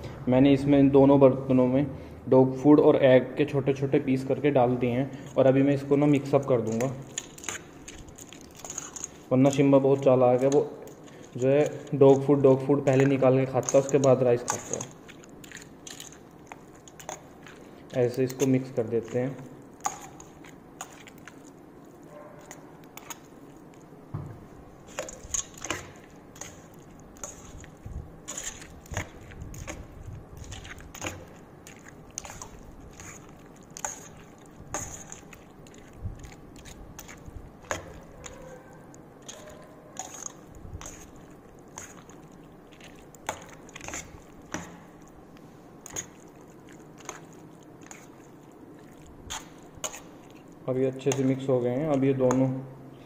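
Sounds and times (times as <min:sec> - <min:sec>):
food mixed by hand squishing: 0:00.0 - 0:53.0.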